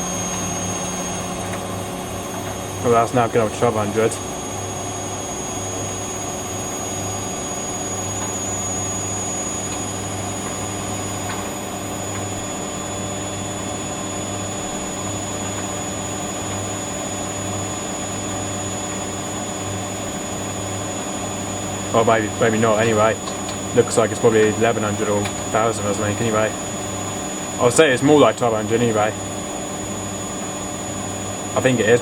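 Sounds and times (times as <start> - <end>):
high-pitched motor whine: 0.0 - 32.0
washing machine spinning: 0.0 - 32.0.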